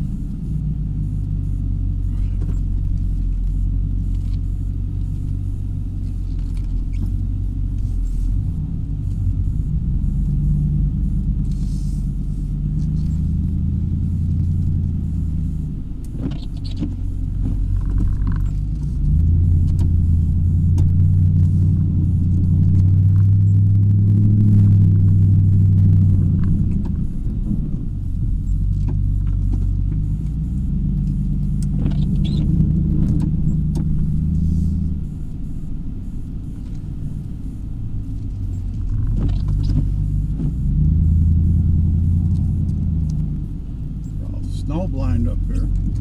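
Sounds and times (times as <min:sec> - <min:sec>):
truck engine low rumble: 0:00.0 - 0:46.0.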